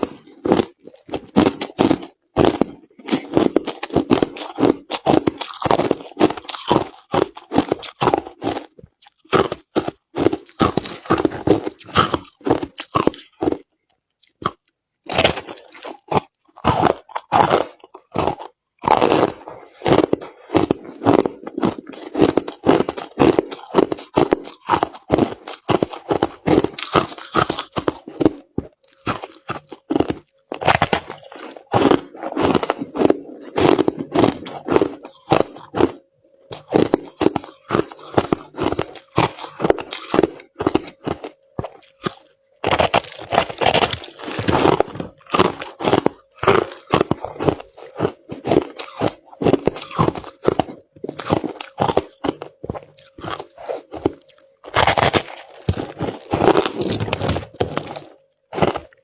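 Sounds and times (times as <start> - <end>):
crushed ice being chewed: 0.0 - 59.0.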